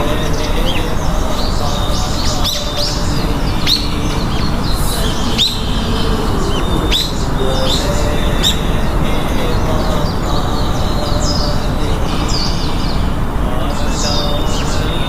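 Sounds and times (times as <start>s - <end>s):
small birds chirping: 0.0s - 15.0s
steady low noise: 0.0s - 15.0s.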